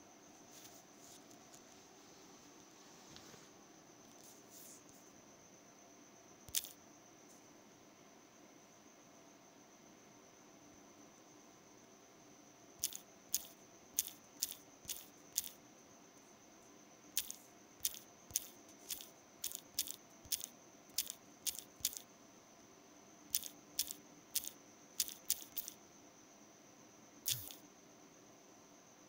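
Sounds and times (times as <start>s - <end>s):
faint high whine: 0.0s - 29.0s.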